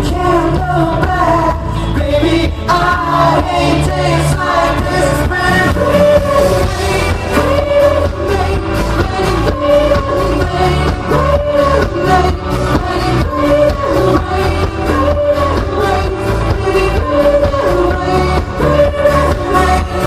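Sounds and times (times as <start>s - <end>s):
backing track with steady beat: 0.0s - 20.0s
man singing into a microphone: 0.0s - 20.0s.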